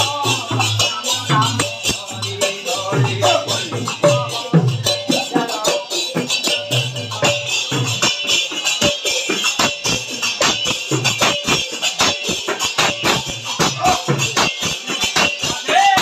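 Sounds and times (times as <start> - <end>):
jingling hand percussion: 0.0 - 16.0.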